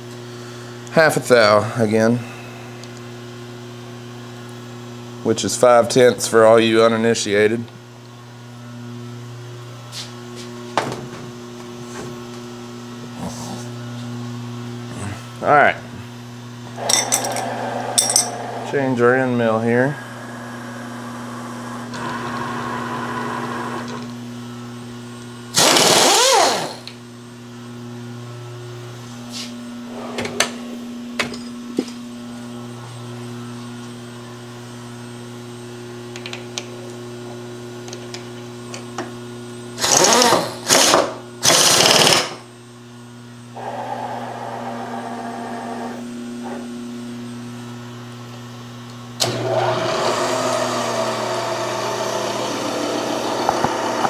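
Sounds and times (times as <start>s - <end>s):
machine motor hum: 0.1s - 27.0s, 27.6s - 42.2s, 42.9s - 54.0s.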